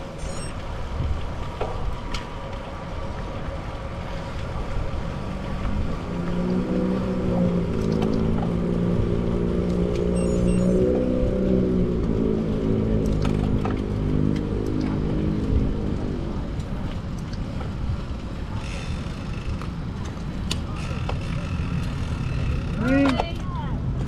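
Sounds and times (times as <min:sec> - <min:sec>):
bicycle tyre and road noise: 0:00.0 - 0:24.0
wind rumbling on microphone: 0:00.0 - 0:24.0.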